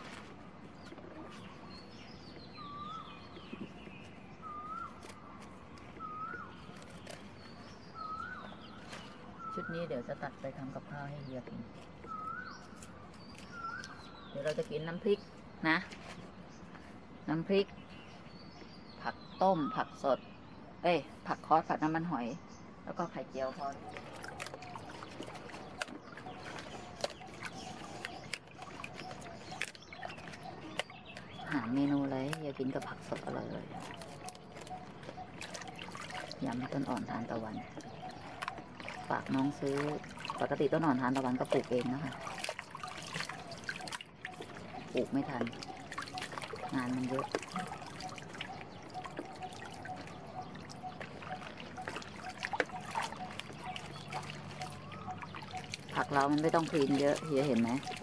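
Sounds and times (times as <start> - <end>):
water splashing in a tub: 0.0 - 20.0, 23.0 - 58.0.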